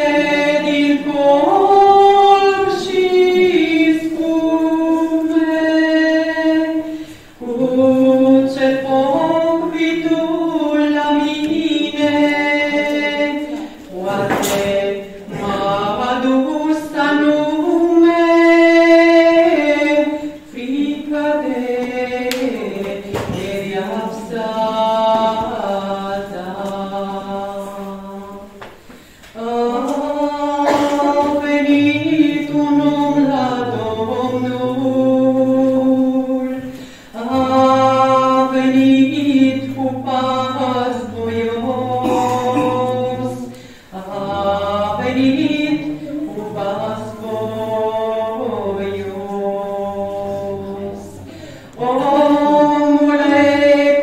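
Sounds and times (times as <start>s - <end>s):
unaccompanied voices singing a hymn: 0.0s - 54.0s.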